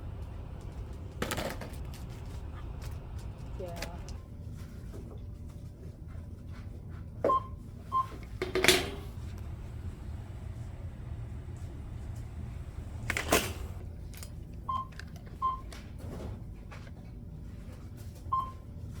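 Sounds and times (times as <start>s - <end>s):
low store hum: 0.0s - 19.0s.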